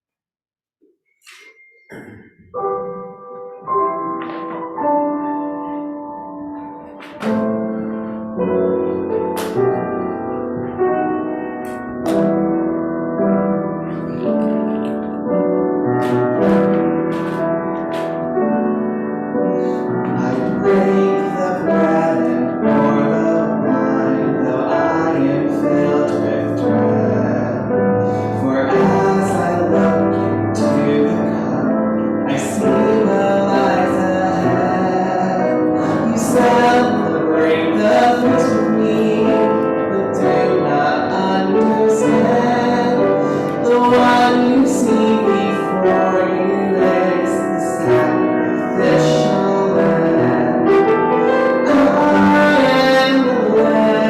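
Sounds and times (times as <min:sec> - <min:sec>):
piano music: 0:01.2 - 0:54.0.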